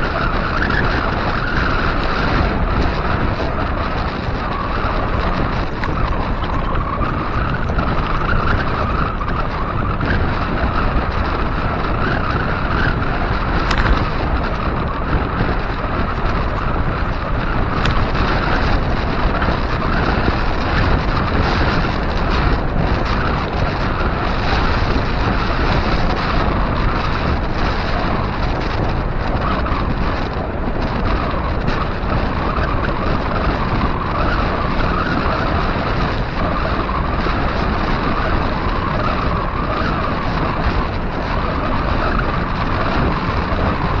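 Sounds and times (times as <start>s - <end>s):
tyres rumbling on concrete road: 0.0s - 44.0s
wind rush on microphone: 0.0s - 44.0s.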